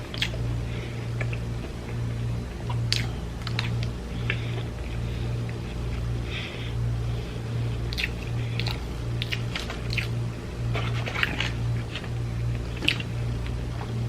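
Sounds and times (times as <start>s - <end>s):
low pulsing hum: 0.0s - 14.0s
person chewing crunchy food: 0.0s - 14.0s.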